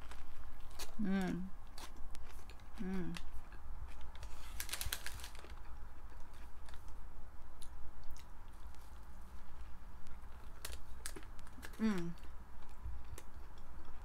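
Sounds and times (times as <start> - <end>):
person chewing food: 1.6 - 4.6, 5.4 - 14.0.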